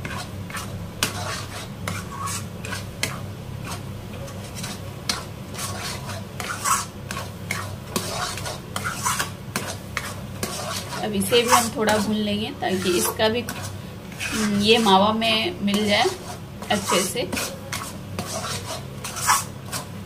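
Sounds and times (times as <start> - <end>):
metal spatula scraping a pan: 0.0 - 20.0.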